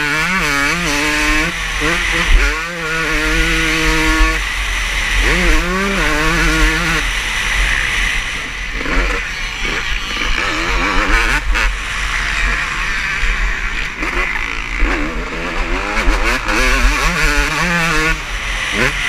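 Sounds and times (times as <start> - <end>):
motocross engines revving: 0.0 - 19.0.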